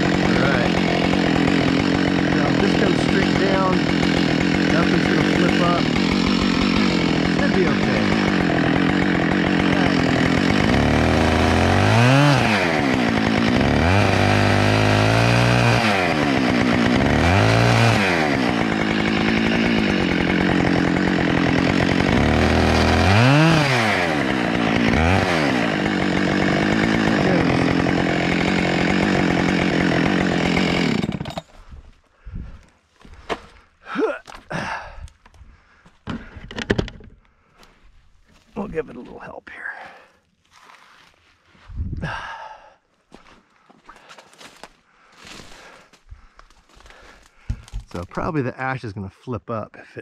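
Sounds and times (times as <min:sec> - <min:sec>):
chainsaw cutting wood: 0:00.0 - 0:31.8, 0:33.0 - 0:37.2, 0:43.2 - 0:48.3.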